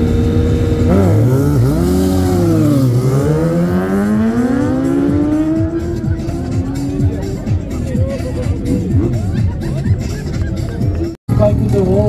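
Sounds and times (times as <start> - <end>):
motorcycle engines at full throttle: 0.0 - 12.0.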